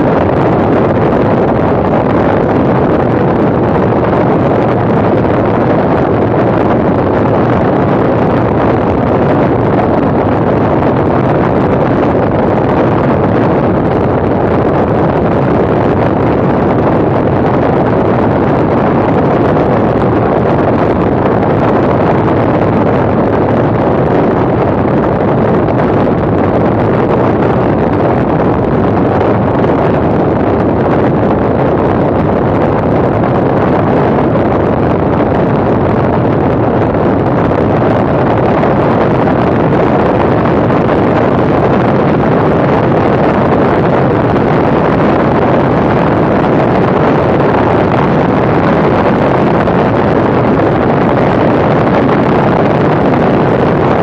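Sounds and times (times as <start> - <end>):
aircraft engine running: 0.0 - 54.0
wind noise on microphone: 0.0 - 54.0.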